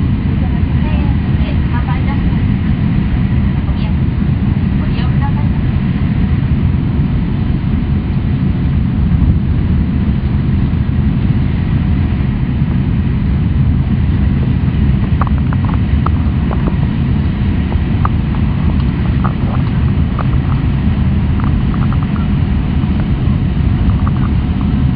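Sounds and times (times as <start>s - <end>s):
train cabin rumble: 0.0s - 24.9s.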